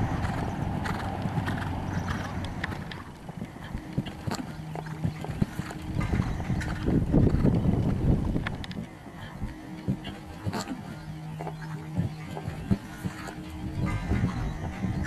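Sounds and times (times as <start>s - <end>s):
horse hoofbeats on sand: 0.0s - 9.0s, 9.8s - 15.0s.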